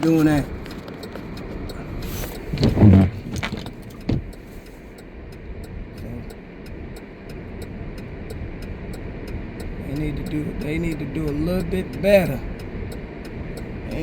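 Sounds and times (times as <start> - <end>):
engine and tyres rumbling: 0.0 - 14.0
light rapid high ticking: 0.0 - 14.0.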